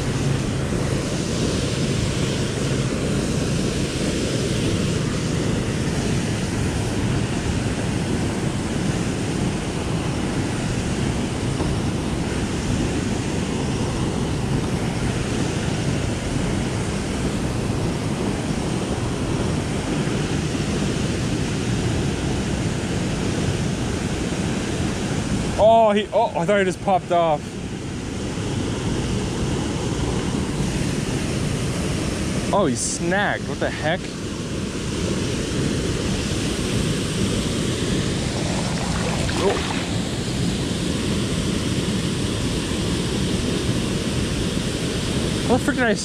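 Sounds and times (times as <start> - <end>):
river water rushing: 0.0 - 21.7, 22.6 - 46.0.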